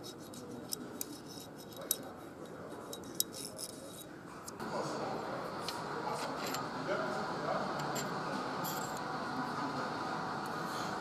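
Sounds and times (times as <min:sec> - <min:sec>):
workshop background noise: 0:00.0 - 0:11.0.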